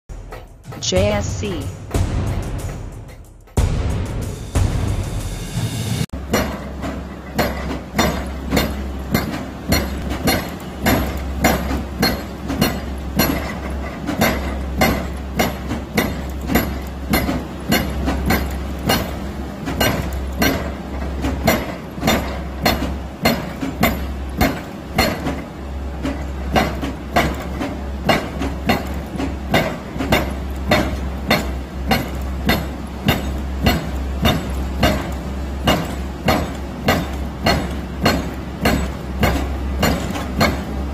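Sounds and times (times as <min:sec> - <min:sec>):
excavator engine drone: 0:06.2 - 0:40.9
hydraulic breaker hammering rock: 0:06.2 - 0:40.9.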